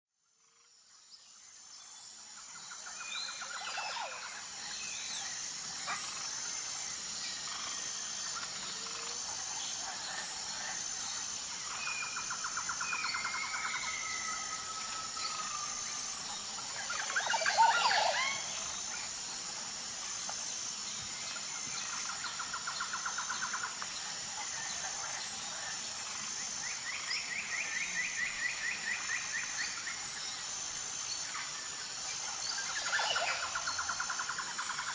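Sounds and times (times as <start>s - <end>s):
steady high-pitched insect buzz: 0.2s - 34.9s.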